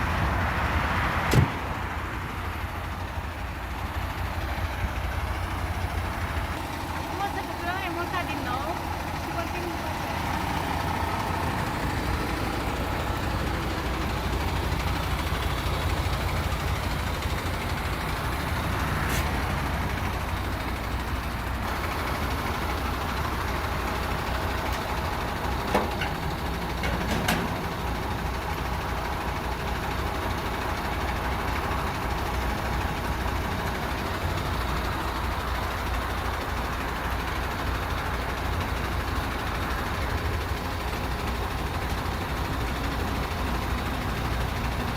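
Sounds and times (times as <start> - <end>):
diesel engine rumbling: 0.0 - 44.9.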